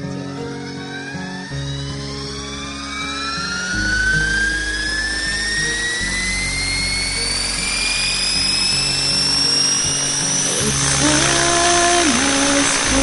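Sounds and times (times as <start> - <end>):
background music: 0.0 - 13.0
model helicopter rotor whine: 0.0 - 13.0.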